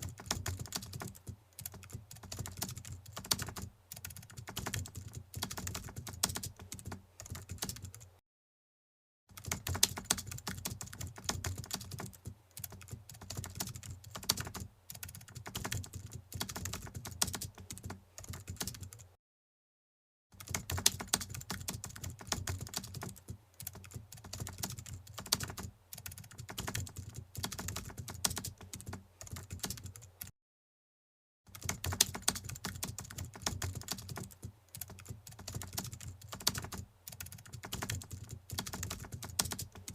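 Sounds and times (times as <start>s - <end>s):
rapid typing on keyboard: 0.0s - 8.1s, 9.3s - 19.1s, 20.4s - 30.3s, 31.5s - 39.9s.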